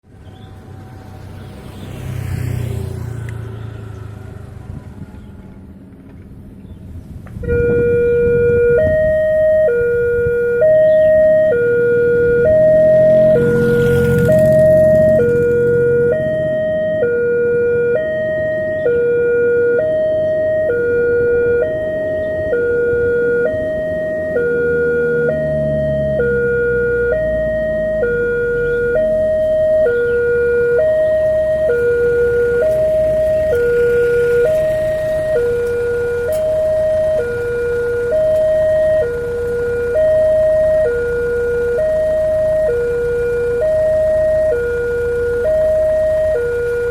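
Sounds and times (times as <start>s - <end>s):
level crossing warning alarm: 7.4s - 46.9s.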